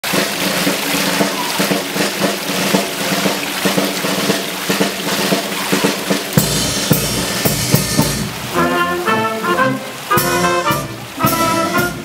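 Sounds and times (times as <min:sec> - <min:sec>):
snare and bass drum rhythm: 0:00.0 - 0:12.0.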